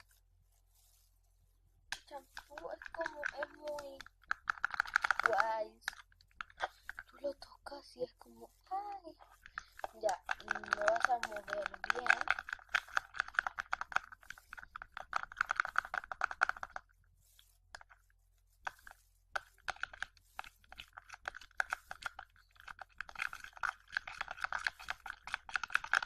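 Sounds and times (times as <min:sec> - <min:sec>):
utensil stirring thick liquid: 0:01.9 - 0:26.0.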